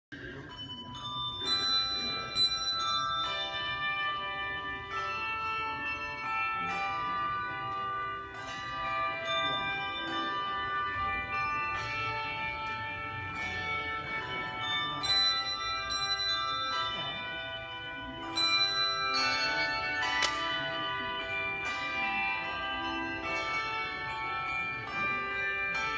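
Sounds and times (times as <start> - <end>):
tuned bells ringing: 0.1 - 25.9.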